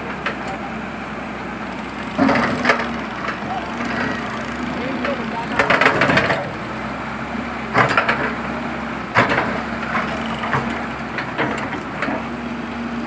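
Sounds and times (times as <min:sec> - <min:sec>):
excavator diesel engine hum: 0:00.0 - 0:13.0.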